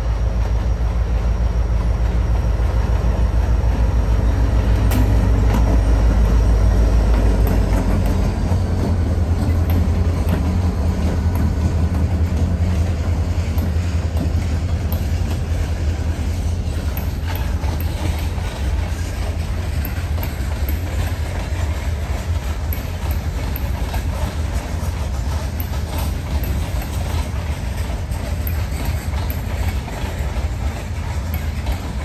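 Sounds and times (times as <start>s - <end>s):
diesel locomotive rumbling: 0.0s - 32.0s
wheels clicking over rail joints: 1.8s - 32.0s.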